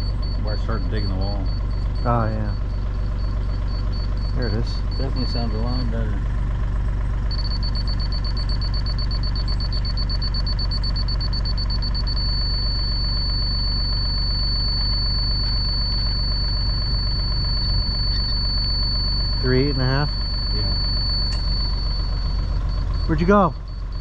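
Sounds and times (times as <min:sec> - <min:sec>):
high electronic beeping and tone: 0:00.0 - 0:06.2, 0:07.3 - 0:24.0
heavy machine engine idling: 0:00.0 - 0:24.0.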